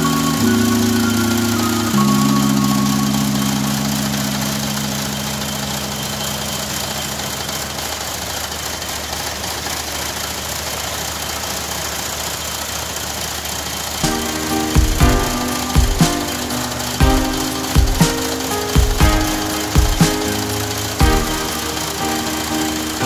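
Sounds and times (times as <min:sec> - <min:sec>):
small tractor engine: 0:00.0 - 0:23.0.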